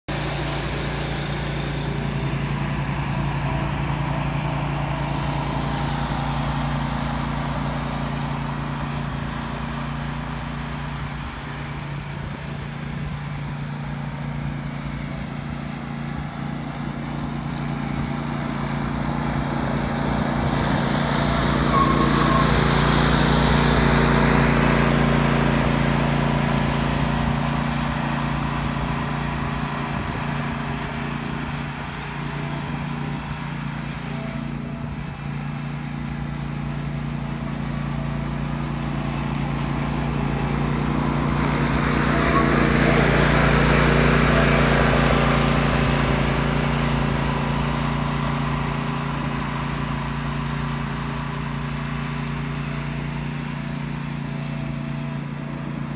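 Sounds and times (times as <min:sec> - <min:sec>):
engine hum: 0:00.0 - 0:55.9
ride-on mower cutting: 0:00.0 - 0:55.9.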